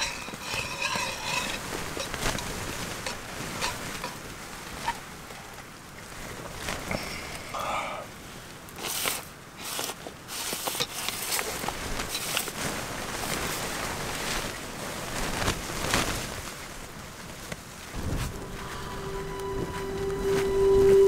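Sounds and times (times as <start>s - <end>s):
fabric rustling and crackling: 0.0s - 7.1s, 8.1s - 21.0s.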